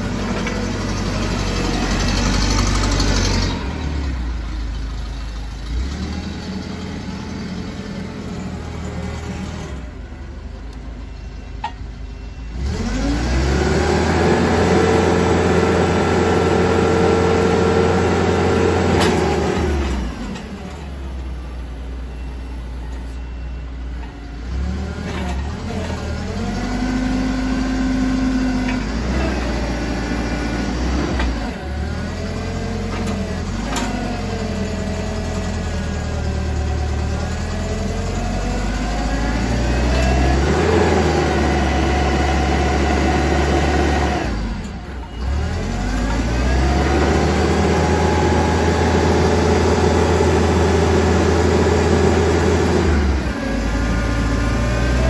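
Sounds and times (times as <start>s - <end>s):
forklift engine revving: 0.0s - 11.2s, 12.4s - 22.8s, 23.9s - 55.0s.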